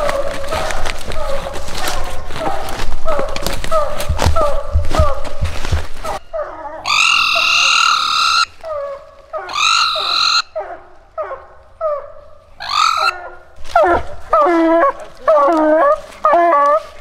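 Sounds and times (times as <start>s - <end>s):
hounds bawling: 0.0s - 17.0s.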